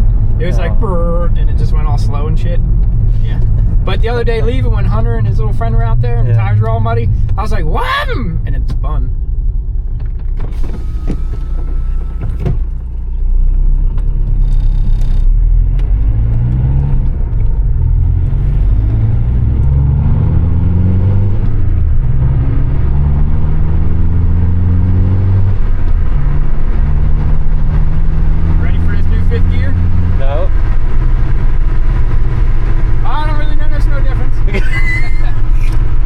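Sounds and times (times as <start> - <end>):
car engine accelerating through gears: 0.0 - 7.6, 9.5 - 36.0.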